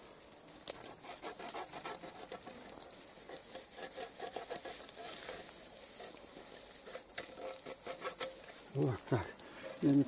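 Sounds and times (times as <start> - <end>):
hands rustling wet weed: 0.0 - 10.0.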